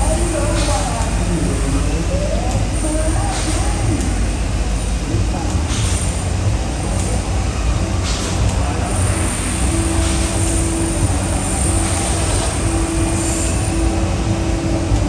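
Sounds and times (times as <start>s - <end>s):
steady hum: 0.0s - 15.0s
vehicle low rumble: 0.0s - 15.0s.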